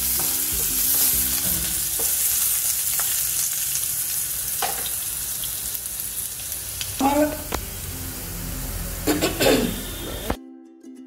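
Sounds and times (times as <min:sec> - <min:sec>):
potatoes sizzling in oil: 0:00.0 - 0:10.4.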